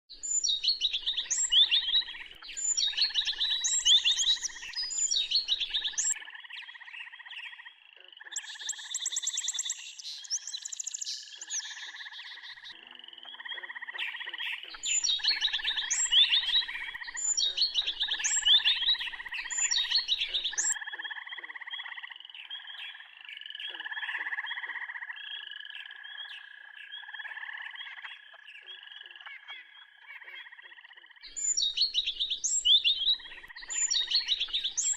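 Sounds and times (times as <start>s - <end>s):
birds chirping: 0.1s - 29.9s, 30.7s - 34.9s.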